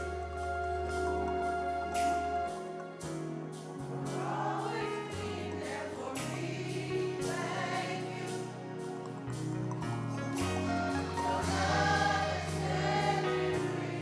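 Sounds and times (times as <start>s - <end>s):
choir singing gospel: 0.0s - 14.0s
held bass notes: 0.0s - 14.0s
instrumental accompaniment: 0.0s - 14.0s.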